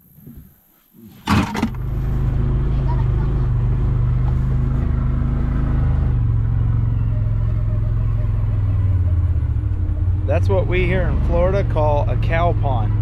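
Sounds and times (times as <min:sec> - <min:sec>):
utility vehicle engine running: 0:01.3 - 0:13.0.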